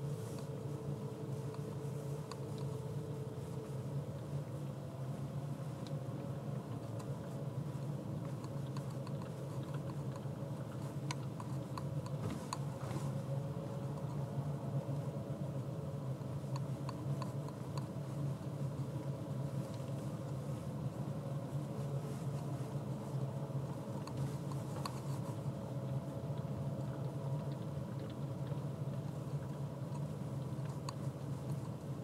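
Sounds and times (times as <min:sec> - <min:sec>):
light ticks: 0:00.2 - 0:14.3, 0:16.4 - 0:20.4, 0:21.7 - 0:32.0.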